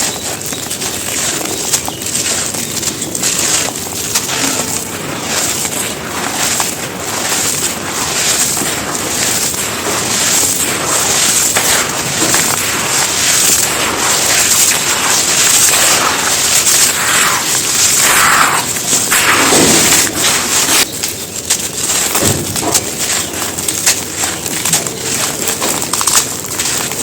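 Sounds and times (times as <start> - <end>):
cement chunks crunching: 0.0 - 27.0.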